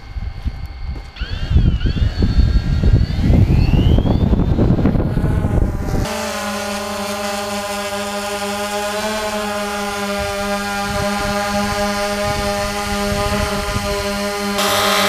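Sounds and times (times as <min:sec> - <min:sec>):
motor whine: 0:00.0 - 0:15.0
steady hum of held tones: 0:00.0 - 0:15.0
quadcopter propeller wash: 0:01.2 - 0:15.0.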